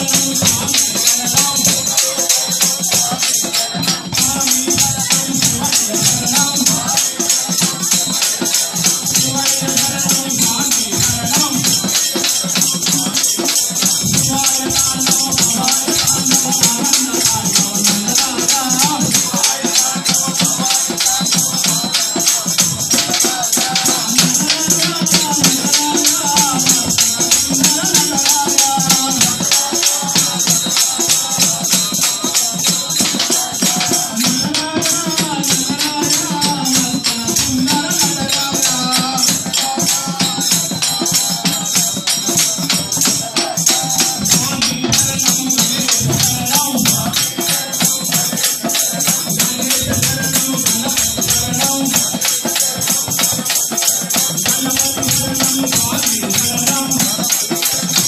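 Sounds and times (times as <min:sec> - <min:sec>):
group of voices singing: 0:00.0 - 0:58.0
jingling hand percussion: 0:00.0 - 0:58.0.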